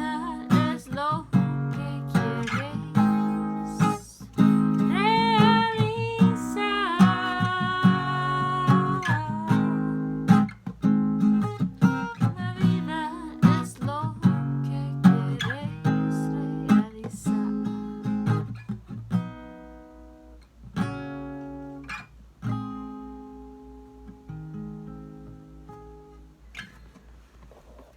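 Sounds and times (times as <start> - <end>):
acoustic guitar strumming: 0.0 - 26.8.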